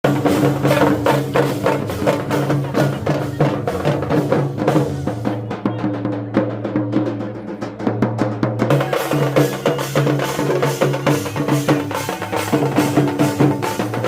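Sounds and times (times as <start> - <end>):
fast drum beat: 0.0 - 14.0.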